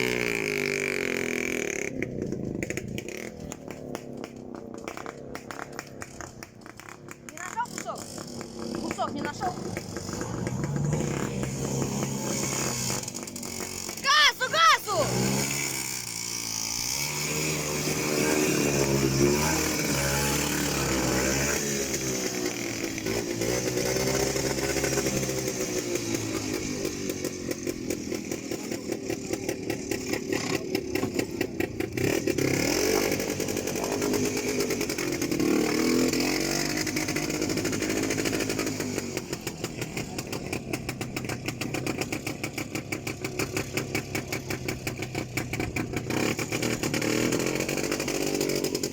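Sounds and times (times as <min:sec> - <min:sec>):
off-road vehicle engine revving: 0:00.0 - 0:48.9.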